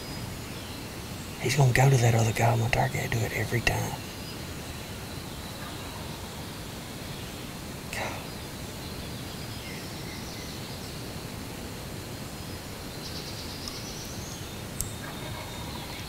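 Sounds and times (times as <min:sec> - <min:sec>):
songbird calls: 0:00.0 - 0:11.1, 0:12.3 - 0:16.0
background hiss: 0:00.0 - 0:16.0.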